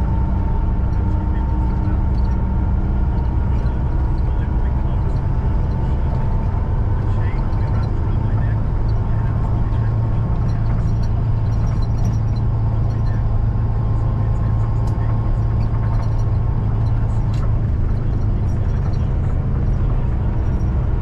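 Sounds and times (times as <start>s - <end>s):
vehicle engine and tyre drone: 0.0s - 21.0s.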